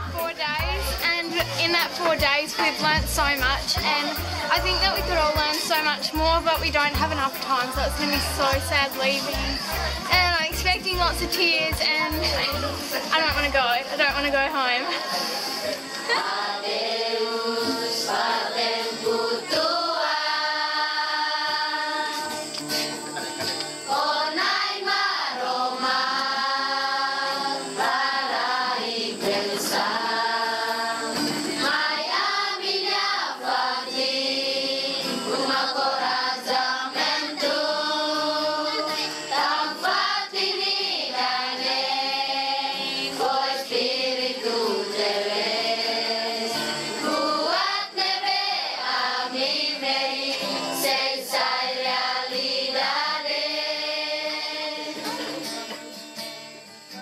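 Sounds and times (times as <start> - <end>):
group of voices singing: 0.0 - 22.9, 23.8 - 55.8.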